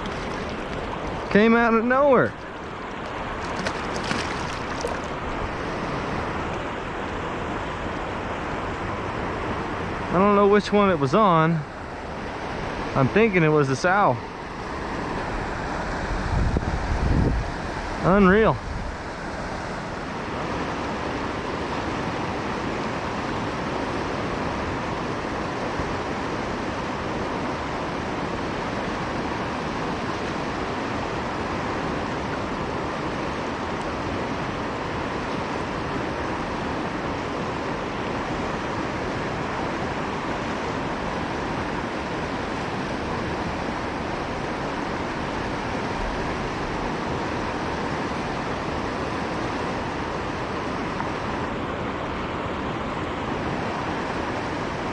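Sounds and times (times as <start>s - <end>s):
river water rushing: 0.0s - 18.0s, 18.6s - 54.9s.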